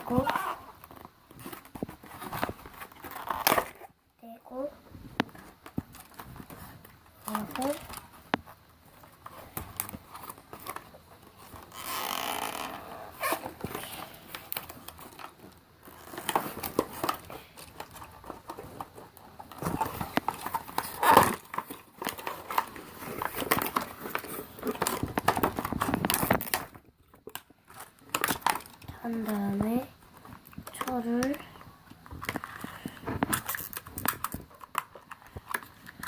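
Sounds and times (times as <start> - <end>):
plastic packaging rustling: 0.0 - 3.9, 4.9 - 36.0.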